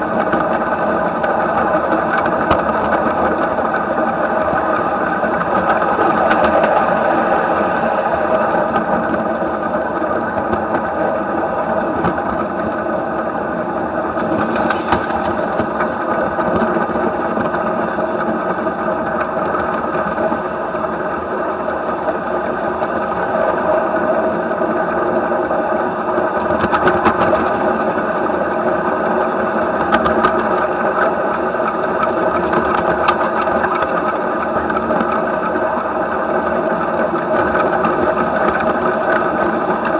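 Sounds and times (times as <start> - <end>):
model steam locomotive clattering: 0.0 - 39.9.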